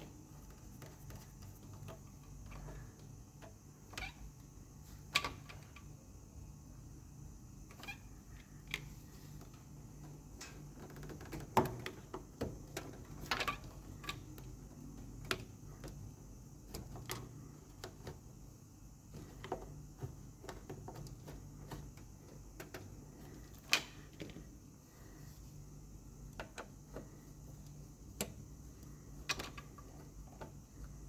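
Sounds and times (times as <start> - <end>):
small parts and tools clicking: 0.0 - 6.0, 7.6 - 25.4, 26.1 - 31.0
steady low hum: 0.0 - 31.0.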